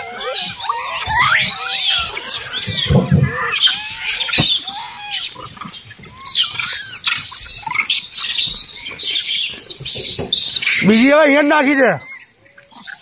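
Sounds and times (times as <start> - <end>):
monkeys squealing and chattering: 0.0 - 13.0.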